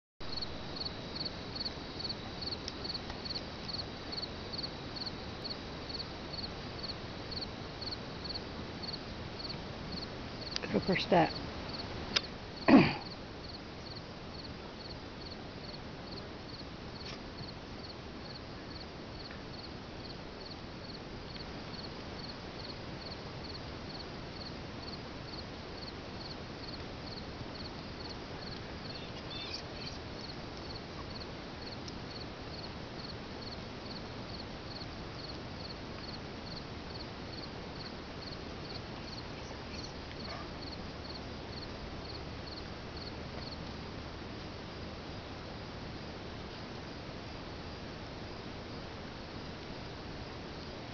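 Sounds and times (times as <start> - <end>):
insects chirping: 0.2 - 46.2.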